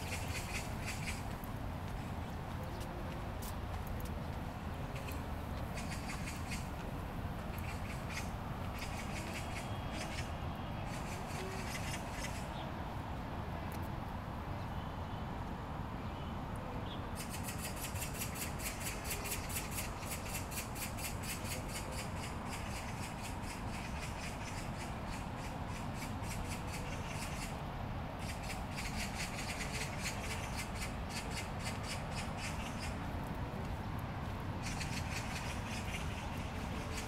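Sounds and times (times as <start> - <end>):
low background noise: 0.0 - 37.0.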